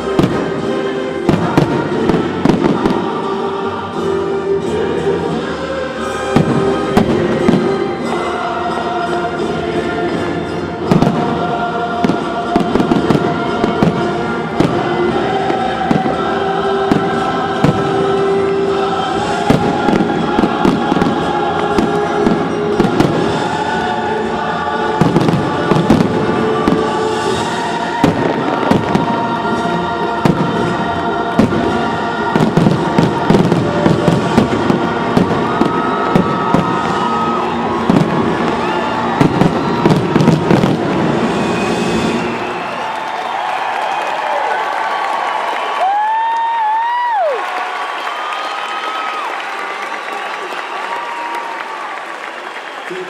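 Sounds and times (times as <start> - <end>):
choral music: 0.0 - 53.0.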